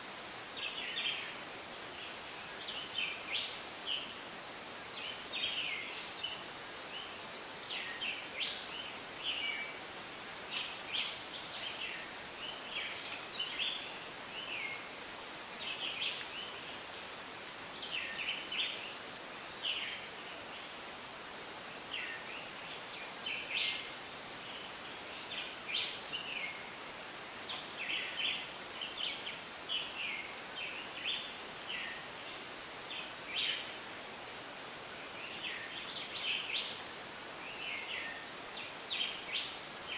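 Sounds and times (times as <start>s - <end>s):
rainforest chirps and calls: 0.0s - 39.9s
steady background hiss: 0.0s - 39.9s.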